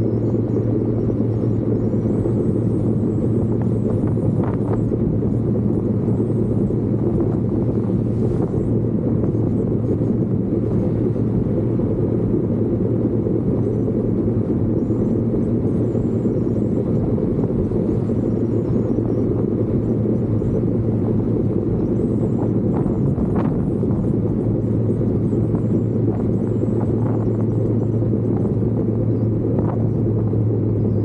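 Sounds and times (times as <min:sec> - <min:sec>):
moving vehicle engine rumble: 0:00.0 - 0:31.0.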